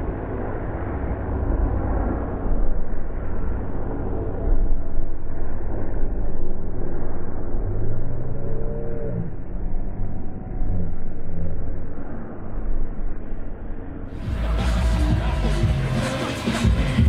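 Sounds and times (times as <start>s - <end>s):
motor droning: 0.0s - 17.0s
steady low rumble: 0.0s - 17.0s.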